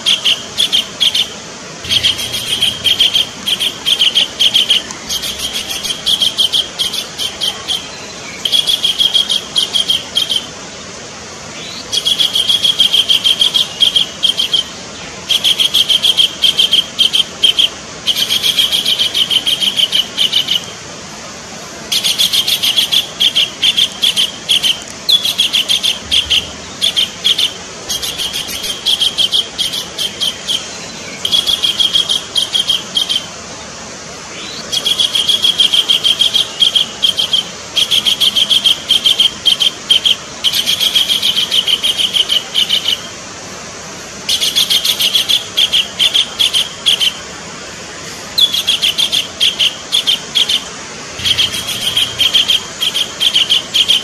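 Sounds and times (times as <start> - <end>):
kingfisher calling harsh notes: 0.0 - 10.6, 11.6 - 20.8, 21.9 - 33.4, 34.3 - 43.2, 44.3 - 47.3, 48.3 - 54.0.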